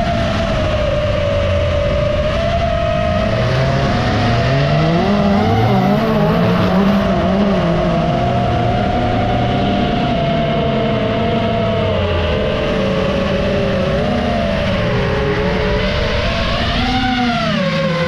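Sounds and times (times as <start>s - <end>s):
drone motors whining: 0.0s - 18.0s
race car engines revving: 0.0s - 18.0s.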